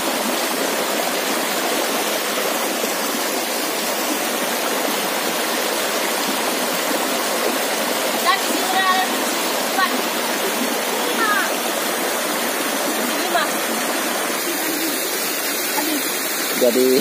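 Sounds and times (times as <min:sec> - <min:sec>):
waterfall rushing water: 0:00.0 - 0:17.0.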